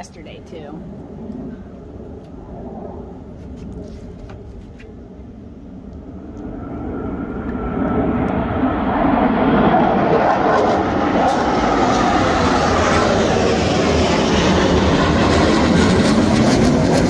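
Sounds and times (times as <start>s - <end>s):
jet engines flying overhead: 0.0s - 17.0s.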